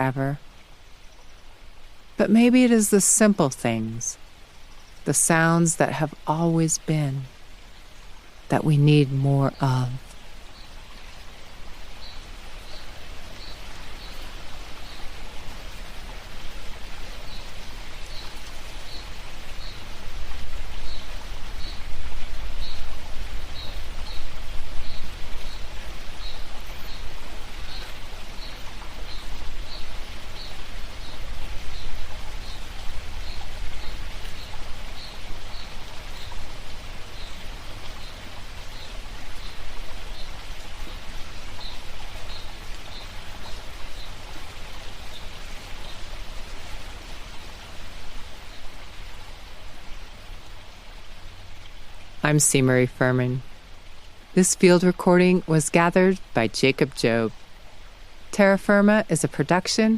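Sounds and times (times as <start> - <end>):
stream rushing water: 0.0 - 59.9.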